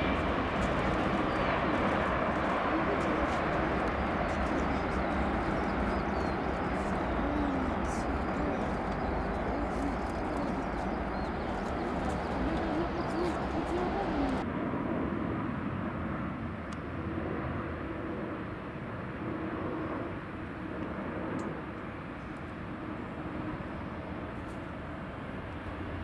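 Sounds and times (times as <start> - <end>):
jet engines on approach: 0.0 - 26.0
jet engines rumbling with whine: 0.0 - 26.0.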